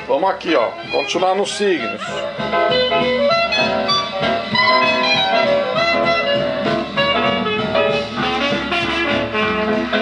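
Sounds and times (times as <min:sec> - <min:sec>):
music from a vinyl record: 0:00.0 - 0:10.0.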